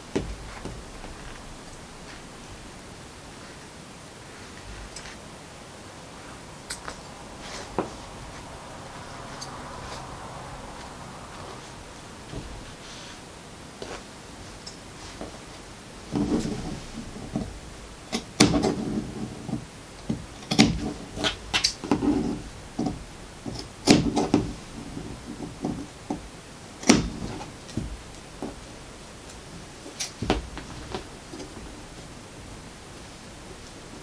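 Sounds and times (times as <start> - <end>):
fabric rustling: 0.0 - 34.0.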